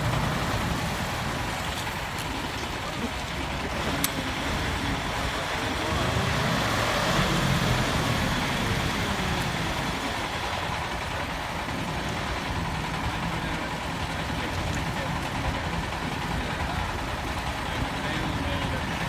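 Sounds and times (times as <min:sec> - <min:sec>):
dump truck engine idling: 0:00.0 - 0:19.0.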